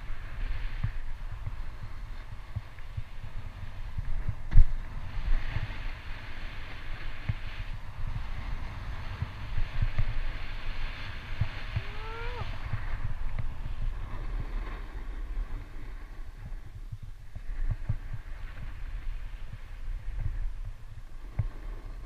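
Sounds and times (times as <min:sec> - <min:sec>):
skis sliding over snow: 0:00.0 - 0:22.0
wind buffeting microphone: 0:00.0 - 0:22.0.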